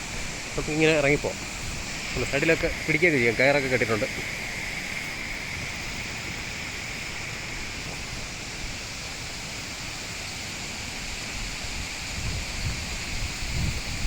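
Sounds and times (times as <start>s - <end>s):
wind buffeting microphone: 0.0s - 9.7s, 10.9s - 14.0s
waterfall rushing hiss: 0.0s - 14.0s.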